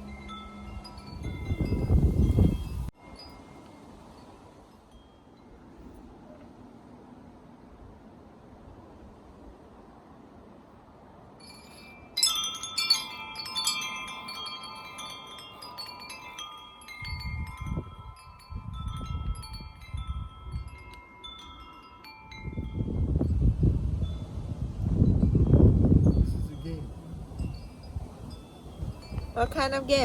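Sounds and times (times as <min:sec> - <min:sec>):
metal wind chimes ringing: 0:00.0 - 0:06.1, 0:11.3 - 0:30.0.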